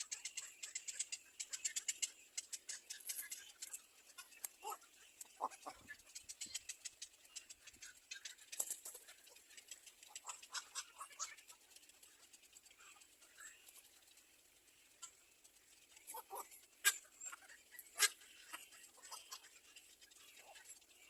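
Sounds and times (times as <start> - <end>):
nestling birds ticking and rustling: 0.0 - 21.0.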